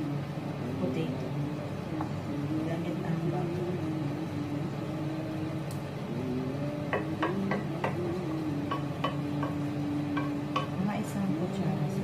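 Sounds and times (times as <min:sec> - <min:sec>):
low humming tone: 0:00.0 - 0:12.0.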